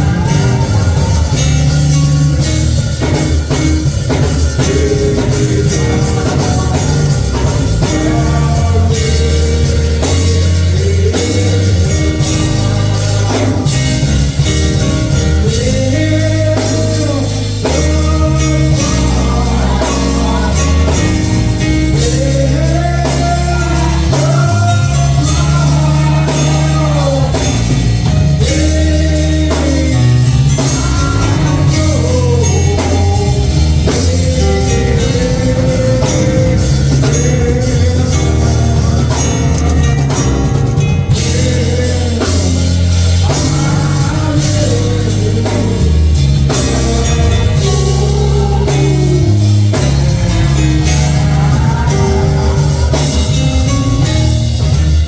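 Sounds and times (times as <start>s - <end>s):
gospel band playing: 0.0s - 55.0s
singing: 4.4s - 40.2s, 41.1s - 54.2s.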